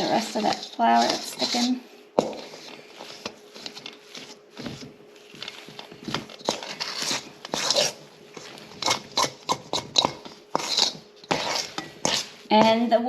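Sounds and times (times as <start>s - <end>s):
dough stirred and scraped in bowl: 0.0s - 13.0s.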